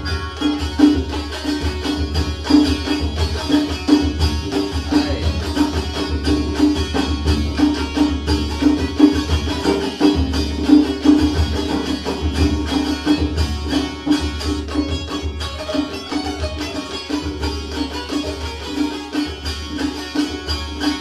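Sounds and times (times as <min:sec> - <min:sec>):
folk music: 0:00.0 - 0:21.0
steady drum beat: 0:00.0 - 0:21.0.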